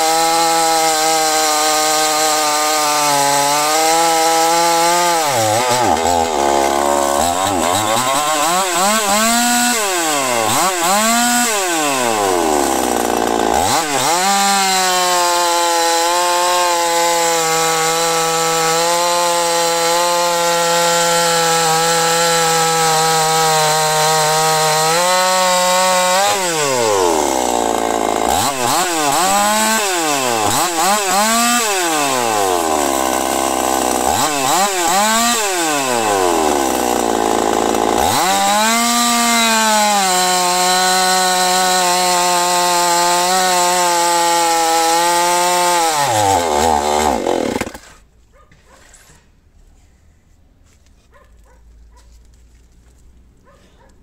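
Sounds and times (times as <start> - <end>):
chainsaw cutting wood: 0.0 - 49.2.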